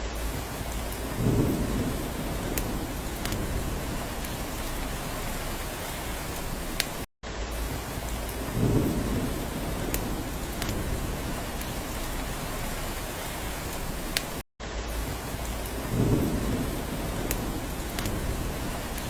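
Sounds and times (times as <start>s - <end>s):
rain hissing: 0.0s - 19.0s
low rumble: 0.1s - 6.2s, 7.5s - 13.1s, 14.9s - 19.0s
raindrops ticking: 0.2s - 19.0s.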